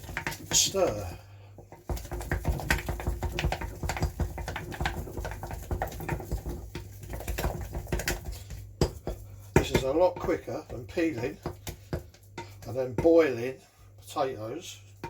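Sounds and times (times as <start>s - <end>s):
utensil stirring wet mash: 0.0s - 15.0s.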